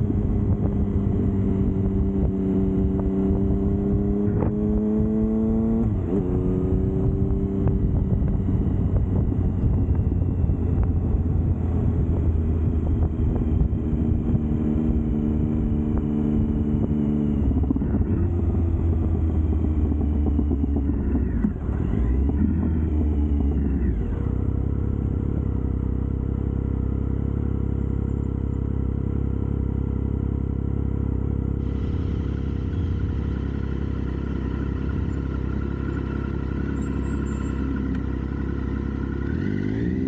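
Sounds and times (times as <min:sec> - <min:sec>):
low engine rumble: 0:00.0 - 0:40.0
motorcycle engine revving: 0:00.0 - 0:40.0.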